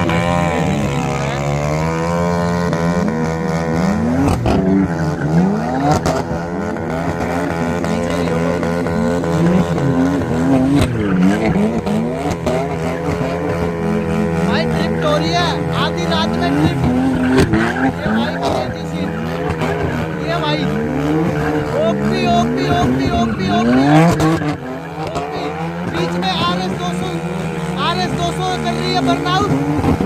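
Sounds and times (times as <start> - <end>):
vehicle engines revving: 0.0 - 30.0.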